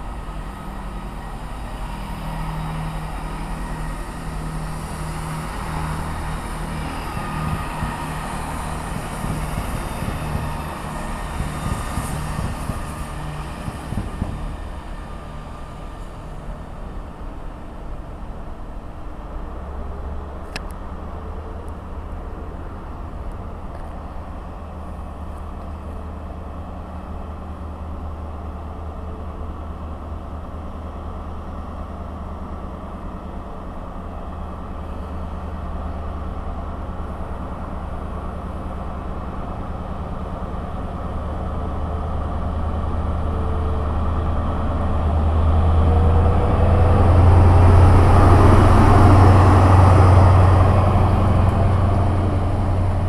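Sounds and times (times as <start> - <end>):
diesel train engine hum: 0.0 - 53.0.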